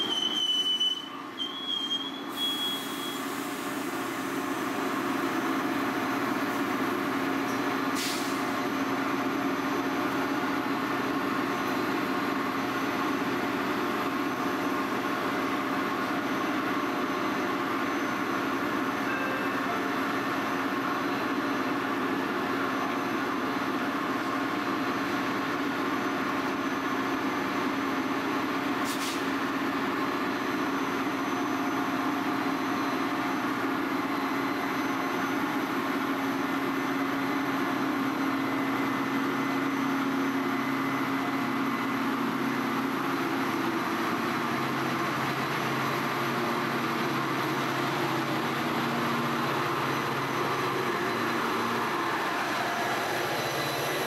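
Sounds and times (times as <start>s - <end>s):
diesel locomotive engine hum: 0.0s - 54.0s.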